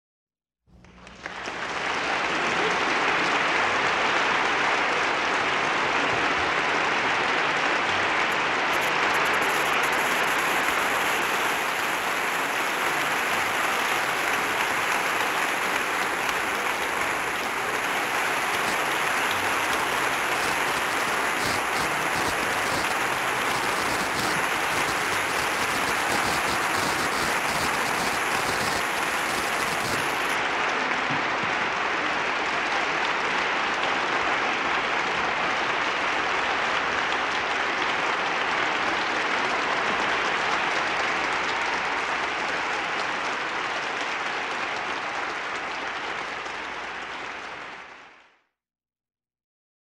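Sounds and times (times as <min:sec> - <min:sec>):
audience clapping: 0:00.8 - 0:48.4.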